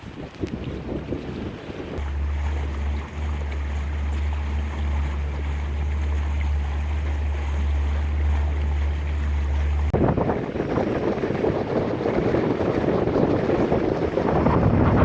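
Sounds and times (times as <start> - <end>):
wind: 0.0 - 15.0
boat motor drone: 0.6 - 15.0.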